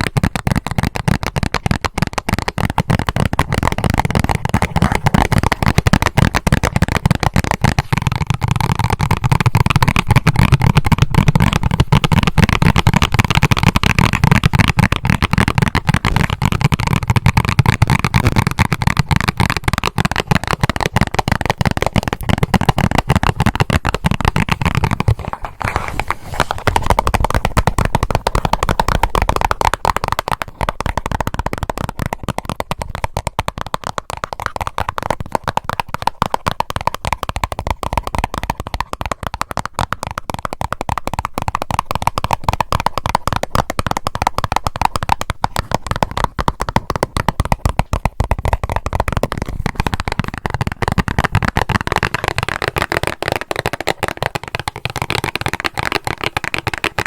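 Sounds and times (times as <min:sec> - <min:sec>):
rapid tapping on a box: 0:00.0 - 0:57.0.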